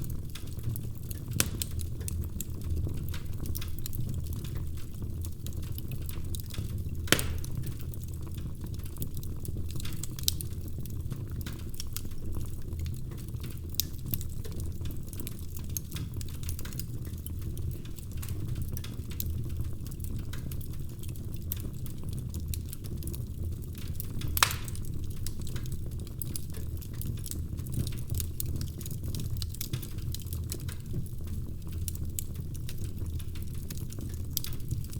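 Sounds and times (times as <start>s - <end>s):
low rumble of flames: 0.0s - 34.9s
wood fire crackling: 0.0s - 34.9s.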